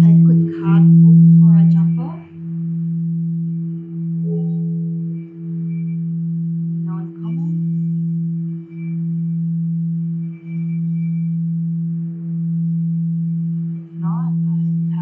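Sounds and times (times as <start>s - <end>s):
singing bowl low tone: 0.0s - 15.0s.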